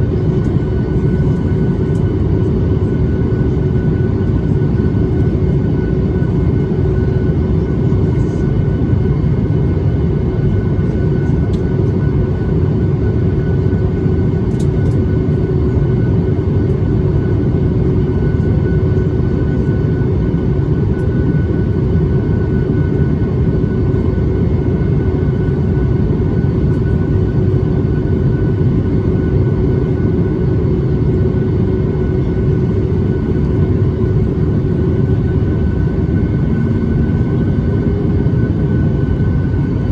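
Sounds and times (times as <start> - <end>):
aircraft cabin engine roar: 0.0 - 39.9.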